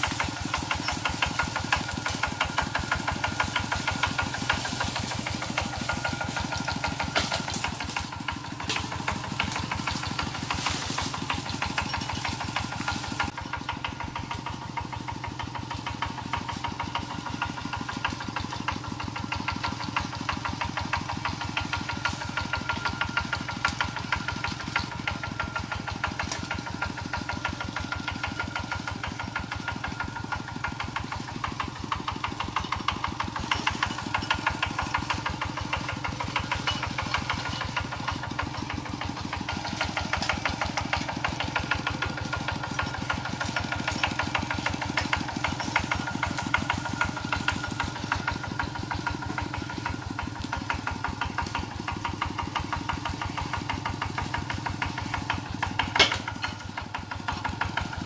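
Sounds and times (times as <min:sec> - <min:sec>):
diesel engine chugging: 0:00.0 - 0:58.0.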